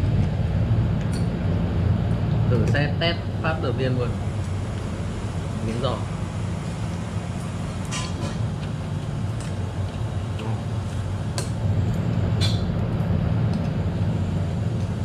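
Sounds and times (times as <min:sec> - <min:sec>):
low rumble with hum: 0:00.0 - 0:15.0.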